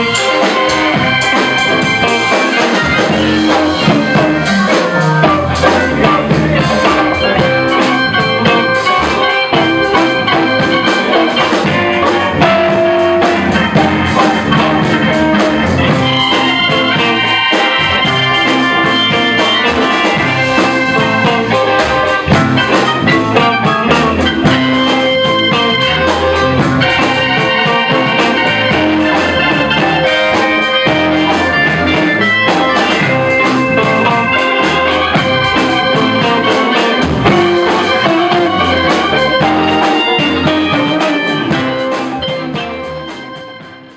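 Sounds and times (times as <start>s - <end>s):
bass guitar: 0.0s - 43.9s
drum kit: 0.0s - 43.9s
electric guitars: 0.0s - 43.9s
keyboard: 0.0s - 43.9s.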